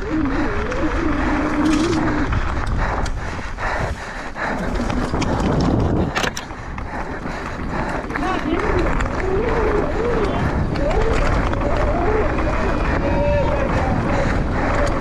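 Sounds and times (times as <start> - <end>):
tyre and trail rumble: 0.0 - 15.0
wind on microphone: 0.0 - 15.0.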